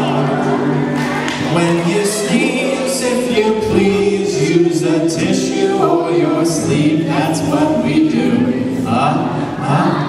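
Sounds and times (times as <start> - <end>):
group singing a children's song: 0.0 - 10.0.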